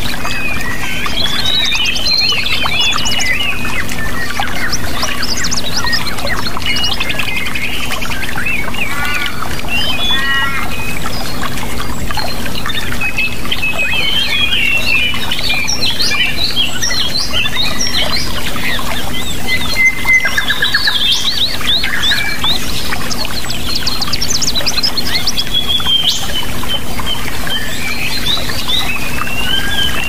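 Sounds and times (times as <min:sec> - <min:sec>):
rushing water: 0:00.0 - 0:30.0
songbirds chirping and trilling: 0:00.0 - 0:30.0.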